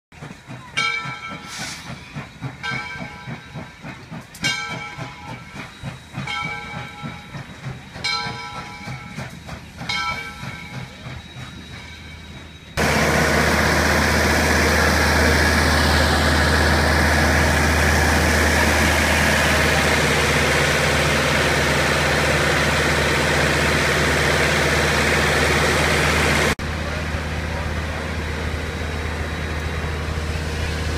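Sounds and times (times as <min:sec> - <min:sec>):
steam train rolling past: 0:00.1 - 0:30.9
loud steady steam hiss: 0:00.2 - 0:30.9
locomotive bell ringing: 0:00.6 - 0:30.9.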